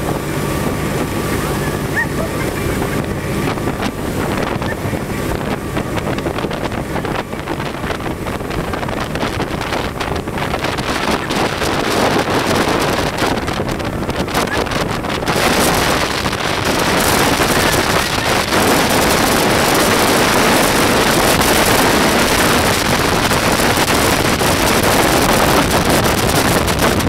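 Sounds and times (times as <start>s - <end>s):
motorboat engine drone: 0.0s - 27.0s
rush of water from wake: 0.0s - 27.0s
wind buffeting microphone: 0.0s - 27.0s.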